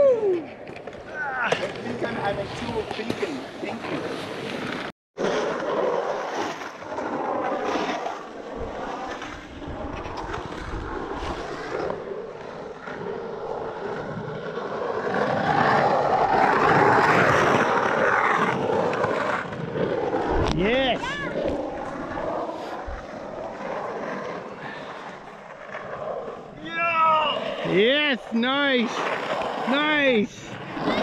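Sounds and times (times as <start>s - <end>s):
skateboard wheels rolling on asphalt: 0.0s - 31.0s.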